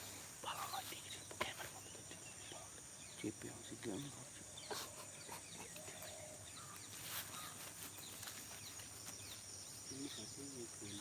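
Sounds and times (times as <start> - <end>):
crickets and insects droning: 0.0 - 11.0
bird chirps: 0.4 - 11.0.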